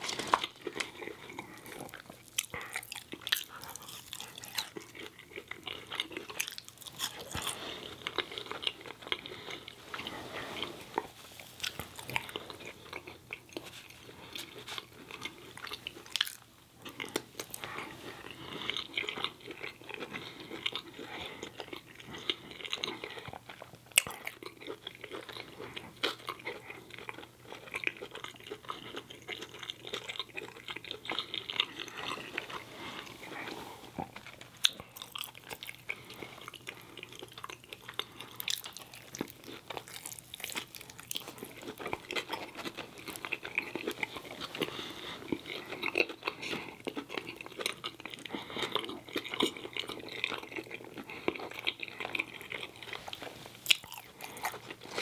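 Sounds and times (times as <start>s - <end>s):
person chewing fries: 0.0s - 55.0s.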